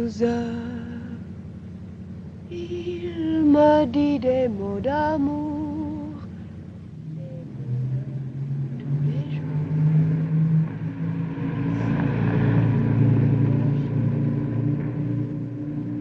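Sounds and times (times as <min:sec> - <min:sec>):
low sustained music chords: 0:00.0 - 0:16.0.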